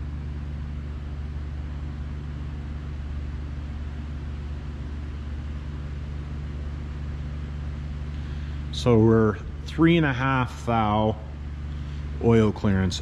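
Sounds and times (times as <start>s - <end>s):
low hum of running machinery: 0.0s - 13.0s.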